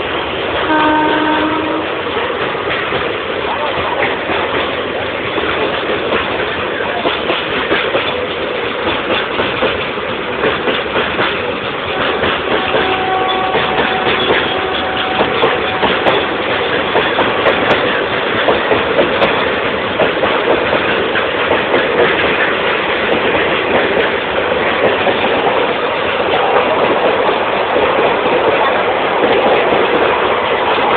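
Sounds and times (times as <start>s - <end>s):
train wheels clattering on rails: 0.0s - 30.9s.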